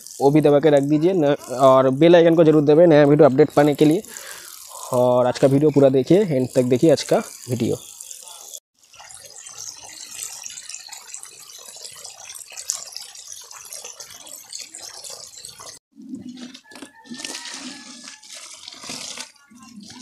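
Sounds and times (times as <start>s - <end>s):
hose stream pouring into tubs: 0.0s - 15.8s, 16.7s - 20.0s
water gushing from a pipe: 0.0s - 15.8s, 16.9s - 20.0s.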